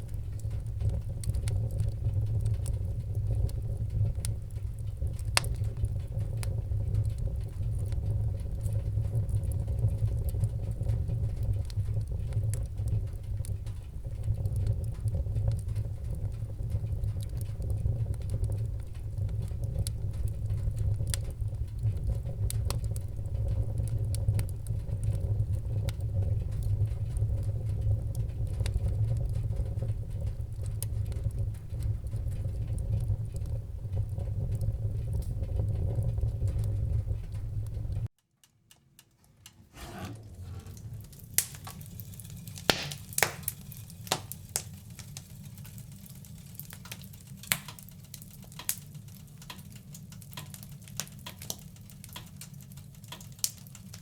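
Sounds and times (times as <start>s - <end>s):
low rumble of flames: 0.0s - 38.1s, 38.7s - 54.0s
fire pops and snaps: 0.0s - 54.0s
wood fire crackling: 0.0s - 54.0s.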